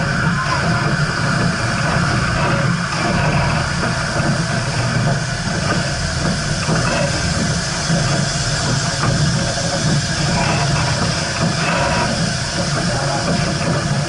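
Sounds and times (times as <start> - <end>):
steam hissing: 0.0 - 14.0
steam train rumble: 0.0 - 14.0.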